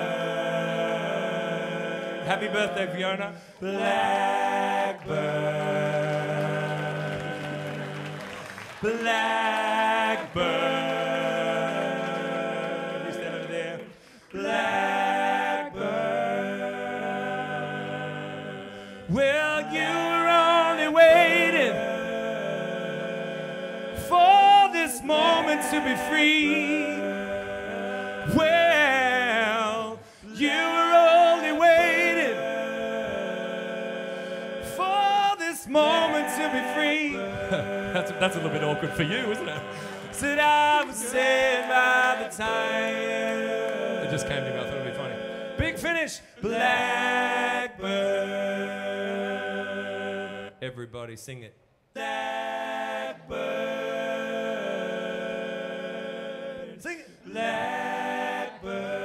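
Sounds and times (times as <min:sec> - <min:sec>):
lead voice singing: 0:00.0 - 0:50.6
male a cappella singing: 0:00.0 - 0:50.6, 0:52.0 - 0:59.0.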